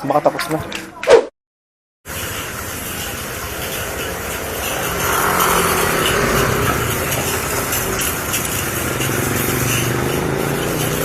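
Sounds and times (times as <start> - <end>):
motorcycle engine running: 2.1 - 11.0.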